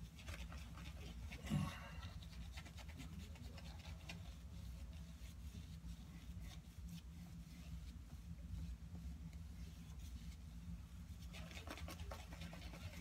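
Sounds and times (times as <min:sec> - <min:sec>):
shaving brush scrubbing soap: 0:00.0 - 0:13.0.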